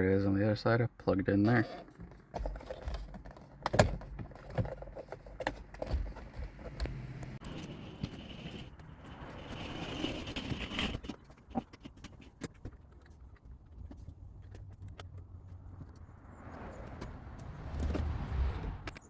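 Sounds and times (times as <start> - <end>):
rustling and scraping: 1.4 - 19.0.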